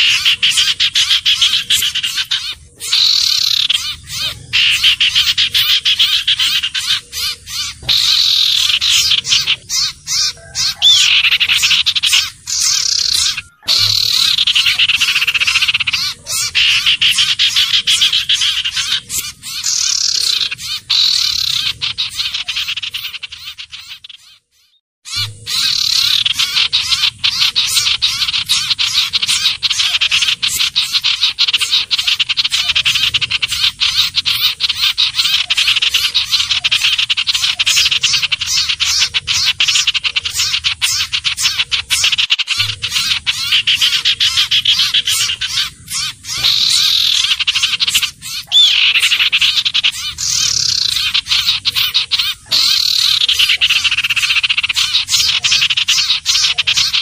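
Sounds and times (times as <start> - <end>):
bird chattering trill: 0.0 - 57.0.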